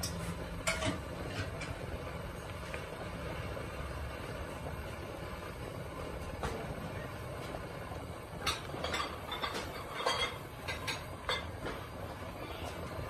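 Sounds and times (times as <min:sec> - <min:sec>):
low rumble of gas burner: 0:00.0 - 0:13.0
pot bubbling at a boil: 0:00.0 - 0:13.0.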